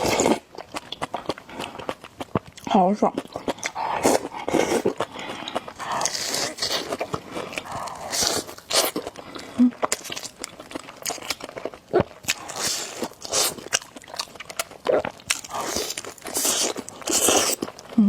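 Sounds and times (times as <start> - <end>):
chewing and biting noodles: 0.0 - 18.0.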